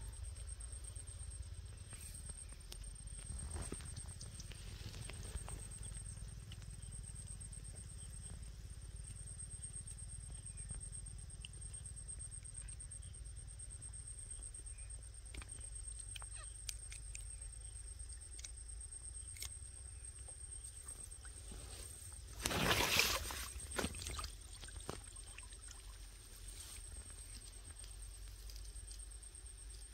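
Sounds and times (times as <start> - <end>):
high-pitched insect trill: 0.0 - 29.9.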